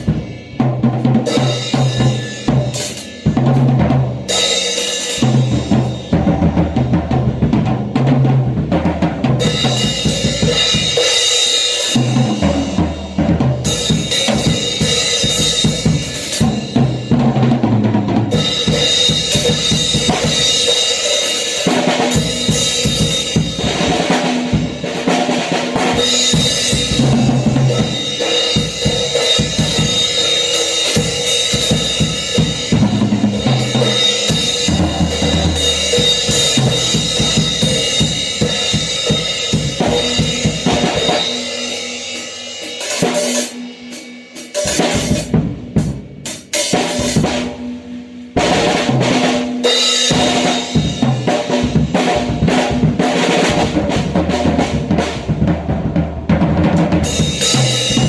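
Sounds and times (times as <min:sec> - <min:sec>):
drum kit played fast: 0:00.0 - 0:58.0.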